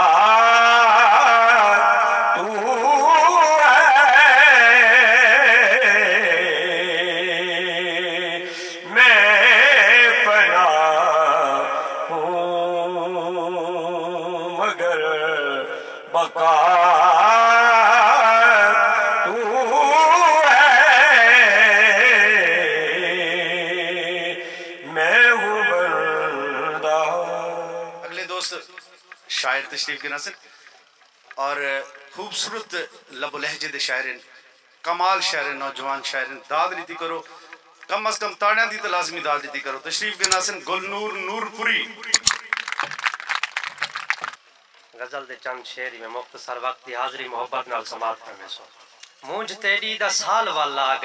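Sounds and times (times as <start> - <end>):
man singing with vibrato: 0.0 - 30.5, 31.4 - 42.5.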